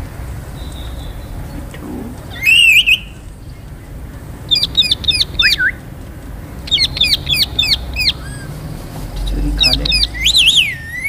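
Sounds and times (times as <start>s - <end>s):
parakeets calling: 0.0s - 11.0s.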